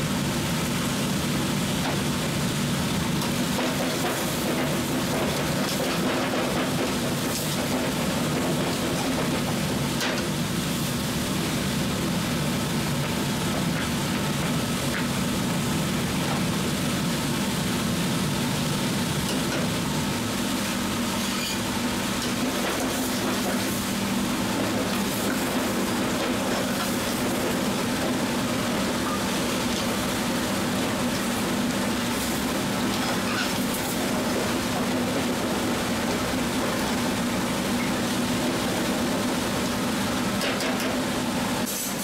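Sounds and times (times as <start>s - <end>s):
food simmering and sizzling: 0.3s - 42.0s.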